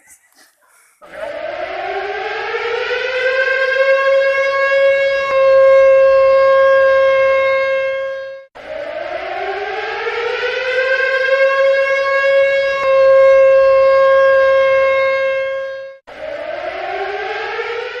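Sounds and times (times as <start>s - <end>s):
siren wailing: 1.0s - 18.0s.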